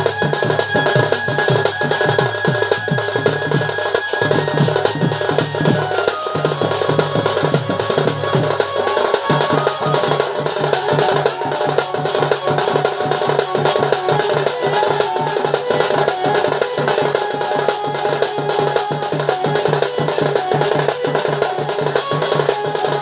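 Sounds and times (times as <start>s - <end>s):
drum beating fast rhythm: 0.0s - 23.0s.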